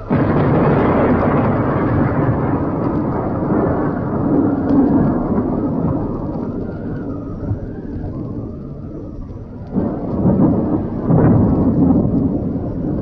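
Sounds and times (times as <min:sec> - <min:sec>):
deep rumbling of volcanic eruption: 0:00.0 - 0:13.0.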